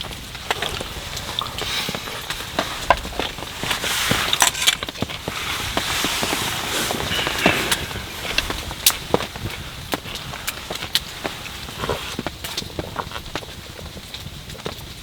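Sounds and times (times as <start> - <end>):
fire hiss: 0.0 - 12.9
campfire crackling and popping: 0.0 - 15.0.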